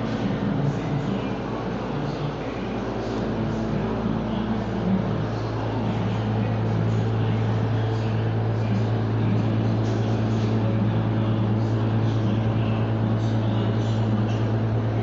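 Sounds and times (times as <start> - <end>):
shop machinery droning: 0.0 - 15.0.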